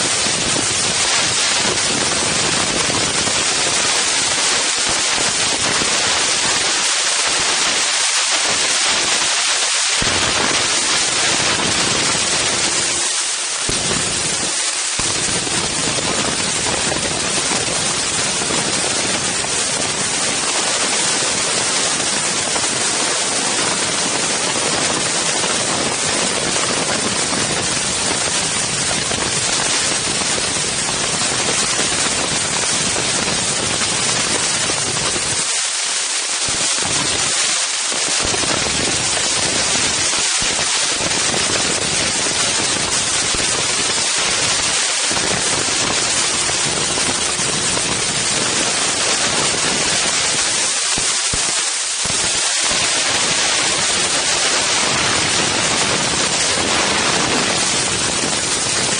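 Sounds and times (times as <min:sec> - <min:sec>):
wind blowing across microphone: 0:00.0 - 0:35.6, 0:36.3 - 0:58.9.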